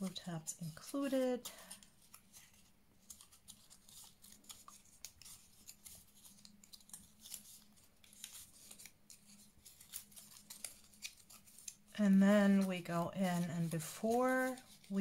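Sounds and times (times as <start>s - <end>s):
cardstock folding crackles: 0.0s - 15.0s.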